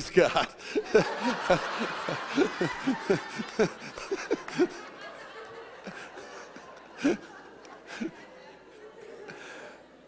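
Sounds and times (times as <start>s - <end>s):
congregation laughing: 0.0s - 10.0s.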